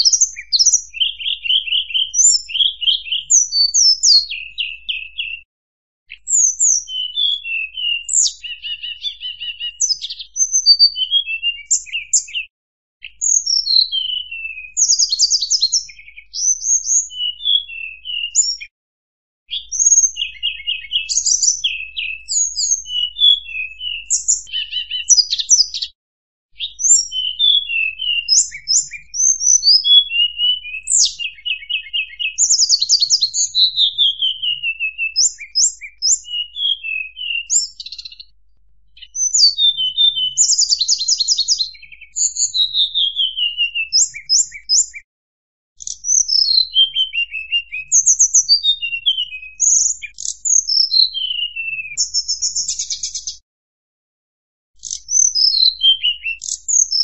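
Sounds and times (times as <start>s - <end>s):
bird singing trills: 0.0s - 5.5s, 6.1s - 18.7s, 19.5s - 26.0s, 26.6s - 38.3s, 39.0s - 45.0s, 45.8s - 53.4s, 54.8s - 57.0s.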